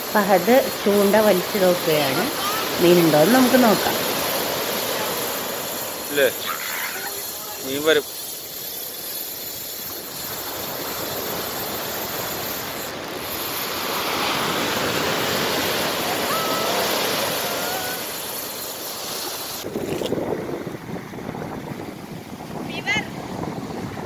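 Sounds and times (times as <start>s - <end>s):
surf breaking on beach: 0.0s - 8.0s, 10.0s - 24.0s.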